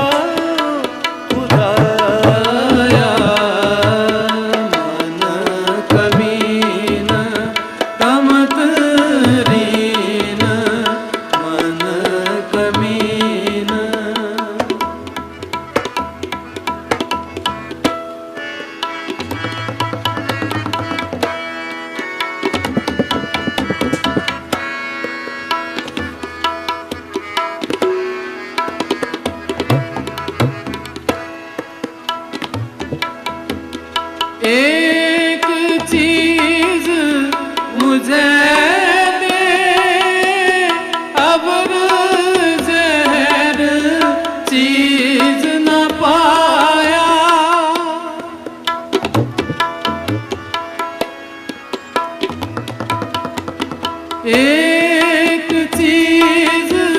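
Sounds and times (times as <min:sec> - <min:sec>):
harmonium chords: 0:00.0 - 0:56.9
person singing wordless melody: 0:00.0 - 0:56.9
tabla playing rhythm: 0:00.0 - 0:56.9.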